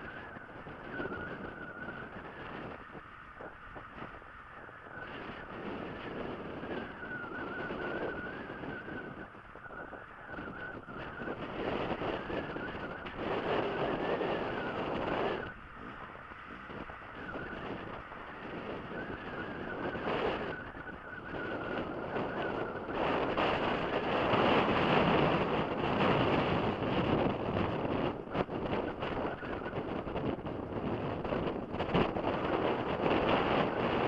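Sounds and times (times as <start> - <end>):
wind rush on microphone: 0.0 - 34.0.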